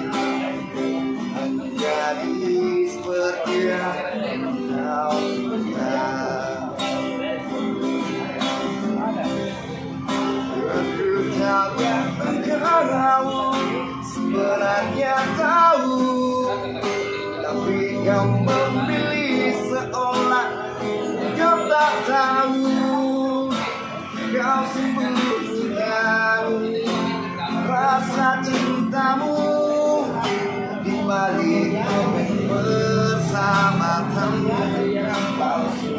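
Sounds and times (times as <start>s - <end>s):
acoustic guitar strumming: 0.0s - 35.9s
man singing: 0.0s - 35.9s.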